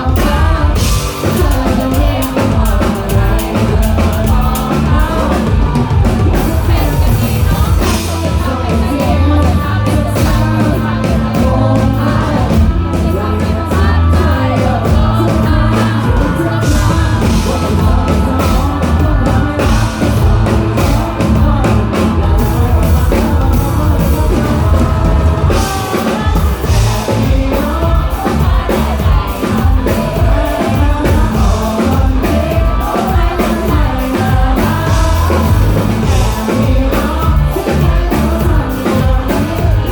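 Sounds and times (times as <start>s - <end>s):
live rock band playing: 0.0s - 39.9s
person singing: 0.0s - 39.9s.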